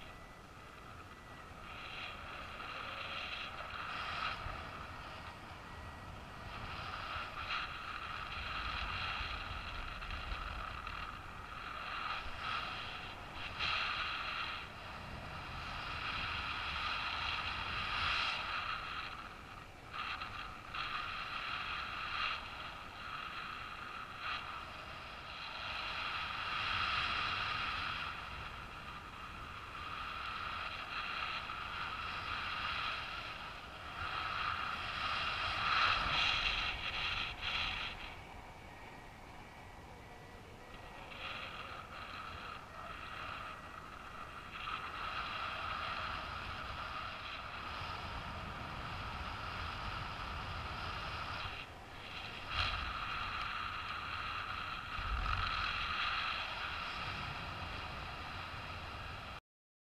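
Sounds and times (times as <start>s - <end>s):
wind rushing past microphone: 0.0s - 59.4s.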